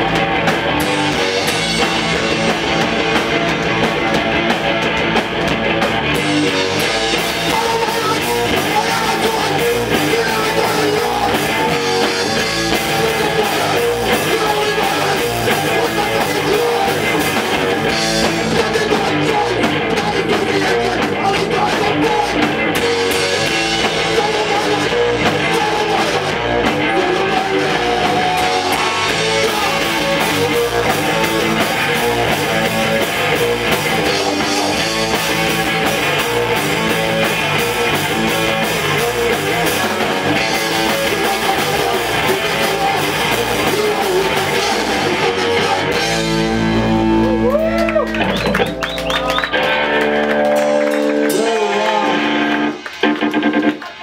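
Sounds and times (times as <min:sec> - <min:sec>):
punk band playing live: 0:00.0 - 0:54.0.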